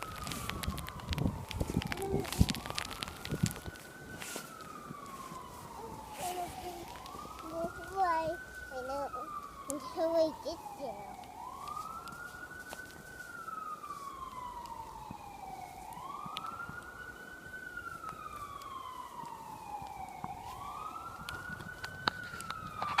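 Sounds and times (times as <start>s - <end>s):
emergency siren wailing: 0.0s - 23.0s.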